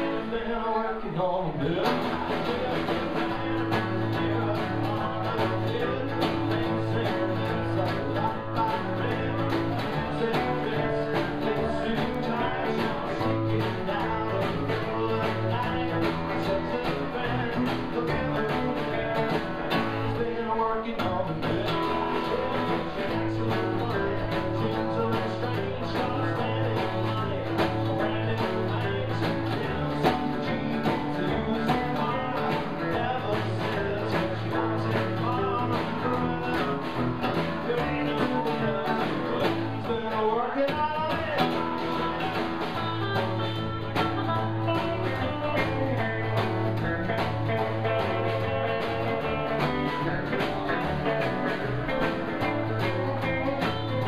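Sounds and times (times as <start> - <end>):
live band playing upbeat tune: 0.0 - 54.0.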